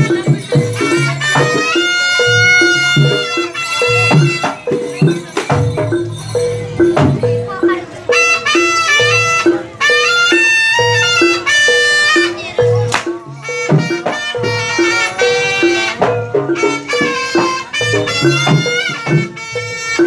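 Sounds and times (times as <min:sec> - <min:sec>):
drums: 0:00.0 - 0:20.0
metallic percussion pattern: 0:00.0 - 0:20.0
reedy wind instrument melody: 0:00.0 - 0:20.0.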